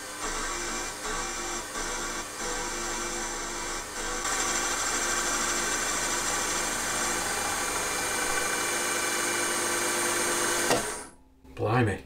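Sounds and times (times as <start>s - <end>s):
milling machine whirring: 0.0s - 11.1s.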